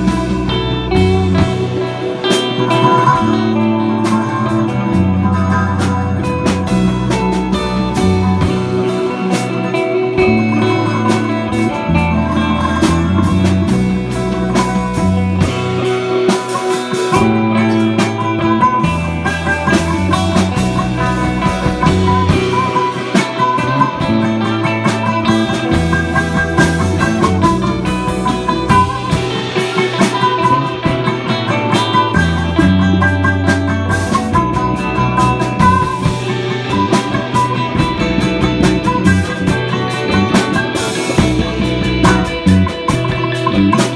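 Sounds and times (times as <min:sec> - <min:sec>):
cigar box guitar: 0:00.0 - 0:43.9
drum kit: 0:00.0 - 0:43.9
electric bass: 0:00.0 - 0:43.9
electric guitar: 0:00.0 - 0:43.9.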